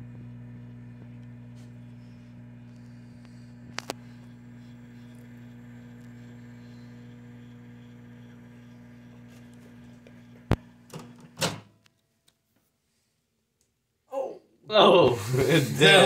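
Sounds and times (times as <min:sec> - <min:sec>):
microwave oven humming: 0:00.0 - 0:11.8, 0:14.7 - 0:16.0.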